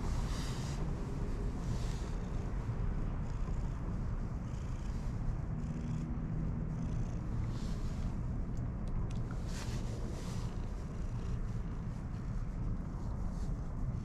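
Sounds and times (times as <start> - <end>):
cat purring: 0.0 - 0.8, 1.4 - 8.2, 9.3 - 13.5.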